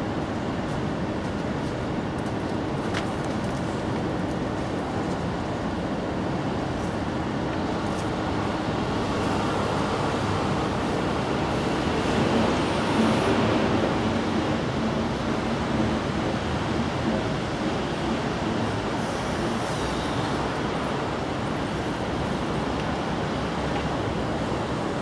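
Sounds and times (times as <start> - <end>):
road traffic rumble: 0.2 - 25.0.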